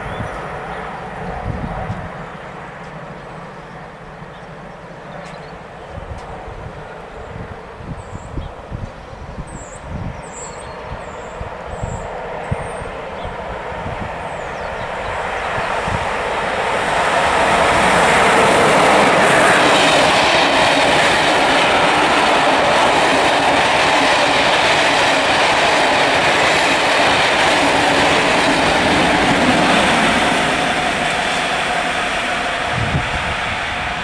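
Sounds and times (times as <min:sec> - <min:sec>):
train wheels on rail: 0:00.0 - 0:34.0.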